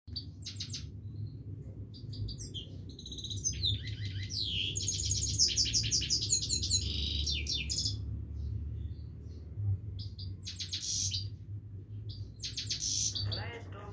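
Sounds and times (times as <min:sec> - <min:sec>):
finch singing chirps and twitters: 0:00.1 - 0:13.9
steady low rumble: 0:00.1 - 0:13.9.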